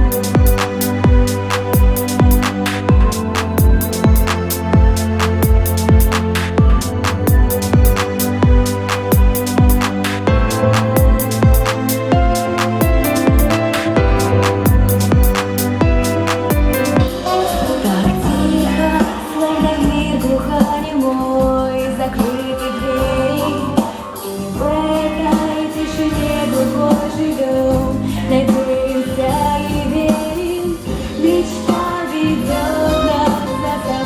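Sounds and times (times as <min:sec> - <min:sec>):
loud instrumental accompaniment: 0:00.0 - 0:28.0
person singing: 0:00.0 - 0:34.0.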